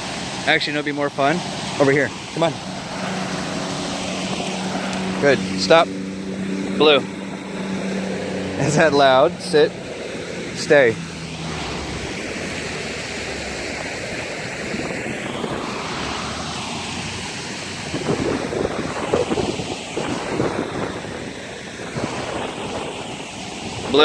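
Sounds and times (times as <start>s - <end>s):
loud steady rushing noise: 0.0s - 24.0s.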